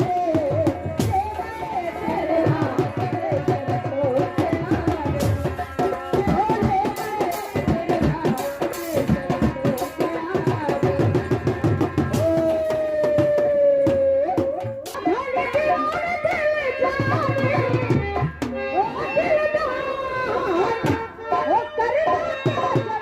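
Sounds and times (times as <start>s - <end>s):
tabla and drums: 0.0s - 23.0s.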